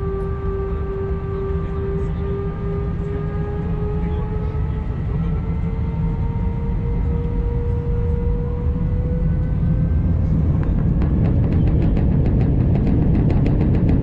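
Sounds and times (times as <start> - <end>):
jet engines rumbling and whining: 0.0 - 14.0.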